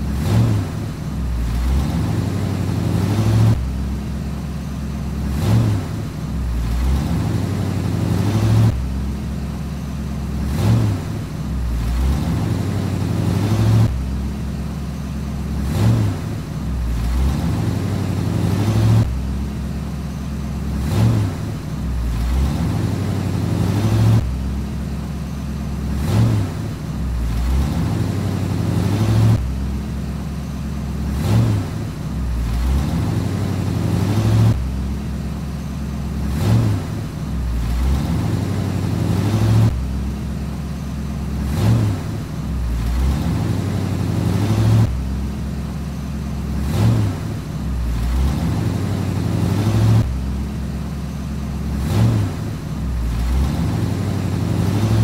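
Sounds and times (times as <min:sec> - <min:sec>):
engine revving: 0:00.0 - 0:55.0
truck engine running: 0:00.0 - 0:55.0.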